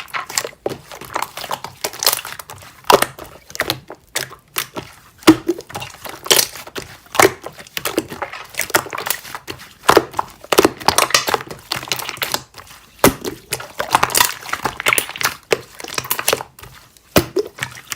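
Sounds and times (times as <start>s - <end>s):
slime crackling and popping: 0.0s - 17.9s.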